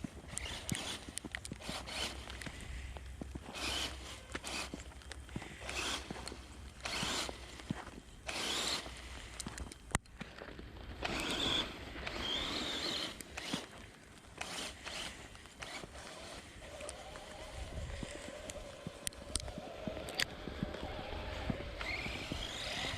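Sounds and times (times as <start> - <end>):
tyres churning through snow: 0.0 - 22.9
electric motor whining: 0.3 - 2.5, 3.4 - 4.9, 5.5 - 9.7, 11.0 - 13.8, 14.4 - 22.9.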